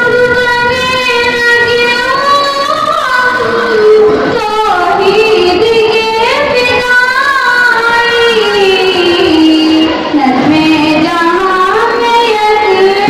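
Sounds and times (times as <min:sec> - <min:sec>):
girl singing into a microphone: 0:00.0 - 0:13.0.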